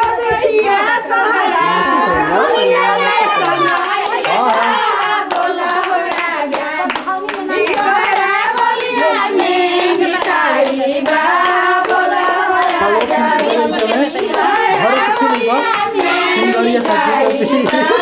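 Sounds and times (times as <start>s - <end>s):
women singing folk song: 0.0s - 18.0s
hand-clapping: 3.0s - 18.0s.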